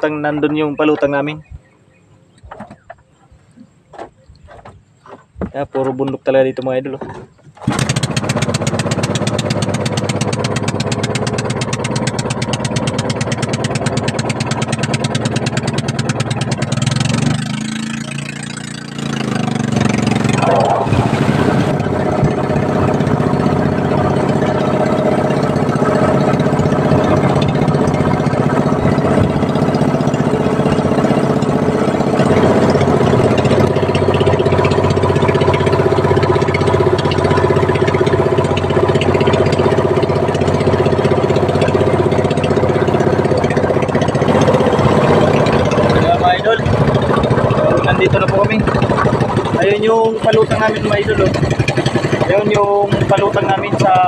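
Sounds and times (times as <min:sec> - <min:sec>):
small boat engine running: 0:07.2 - 0:54.0.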